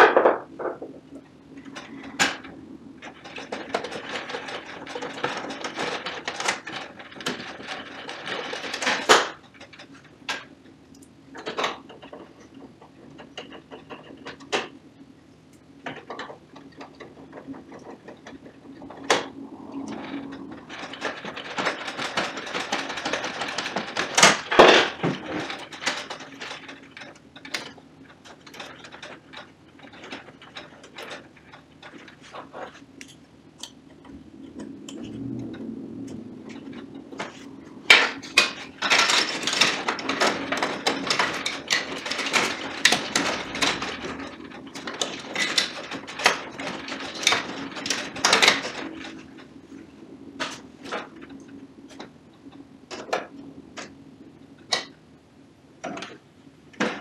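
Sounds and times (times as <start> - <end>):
copier parts rattling and scraping: 0.0 - 14.8, 15.6 - 55.0, 55.8 - 57.0.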